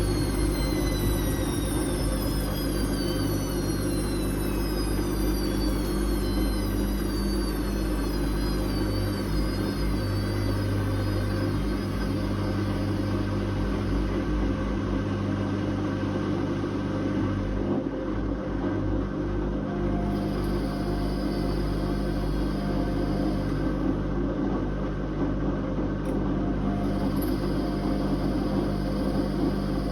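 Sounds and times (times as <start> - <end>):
washing machine motor whine: 0.0 - 29.9.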